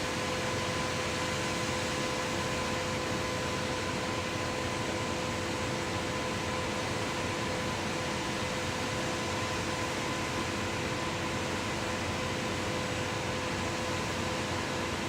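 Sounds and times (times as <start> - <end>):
concrete pump running: 0.0 - 15.0.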